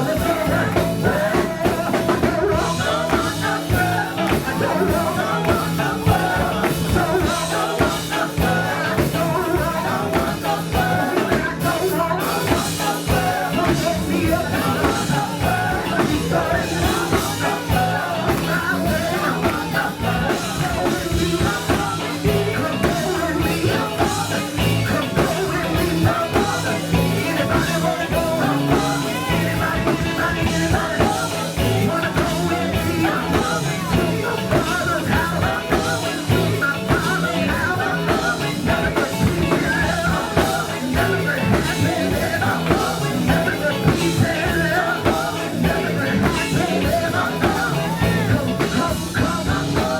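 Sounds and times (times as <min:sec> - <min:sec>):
gospel band playing: 0:00.0 - 0:49.9
singing: 0:00.0 - 0:49.9.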